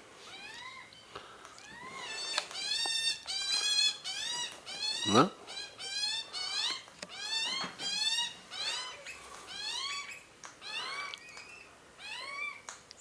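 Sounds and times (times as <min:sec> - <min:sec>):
birds calling: 0:00.2 - 0:12.7.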